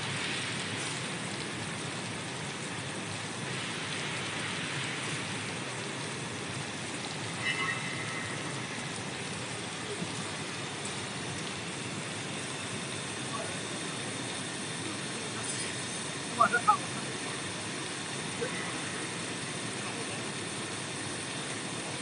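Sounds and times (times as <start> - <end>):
water churning and bubbling: 0.0 - 22.0.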